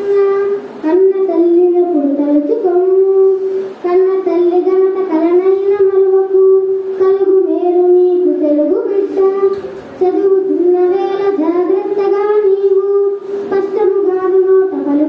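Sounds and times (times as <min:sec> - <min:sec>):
child singing melodic chant: 0:00.0 - 0:15.0.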